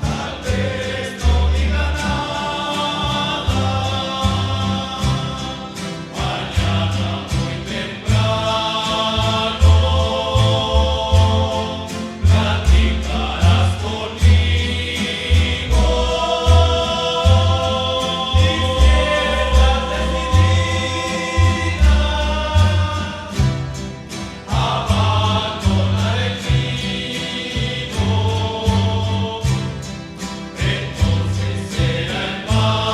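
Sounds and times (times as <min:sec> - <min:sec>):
group of voices singing in harmony: 0:00.0 - 0:32.9
strummed guitars: 0:00.0 - 0:32.9
walking bass line: 0:00.0 - 0:32.9.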